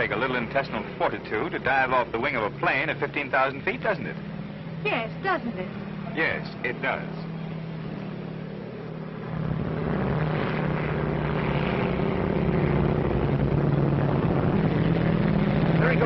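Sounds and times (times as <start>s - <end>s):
propeller airplane engine droning: 0.0s - 16.0s.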